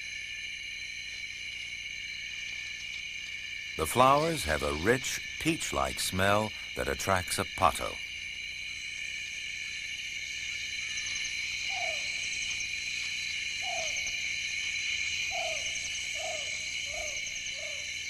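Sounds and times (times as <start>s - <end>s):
high drone of insects: 0.0s - 18.0s.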